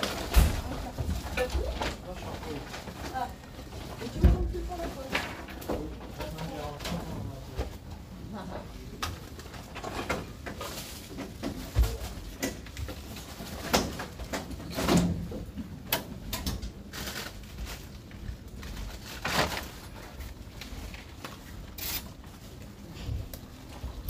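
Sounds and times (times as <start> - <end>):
shop background noise: 0.0 - 24.0.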